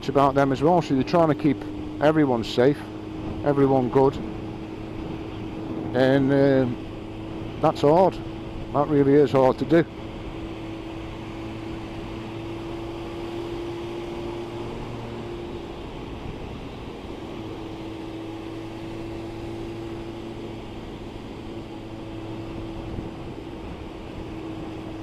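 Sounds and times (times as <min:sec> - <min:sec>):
motorcycle engine cruising: 0:00.0 - 0:25.0
wet road noise: 0:00.0 - 0:25.0
wind rush: 0:01.6 - 0:25.0.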